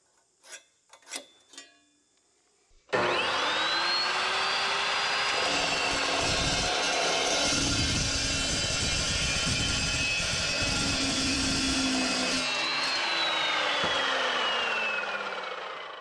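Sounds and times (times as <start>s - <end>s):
chop saw grinding steel tube: 0.4s - 1.8s, 2.9s - 16.0s
saw motor whine winding down: 2.9s - 16.0s.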